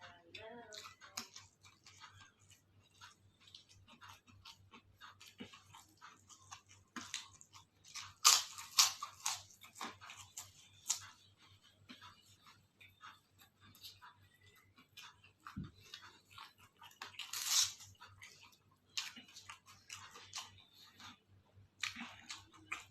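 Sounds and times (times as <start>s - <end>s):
person chewing crisp food: 0.3s - 22.9s.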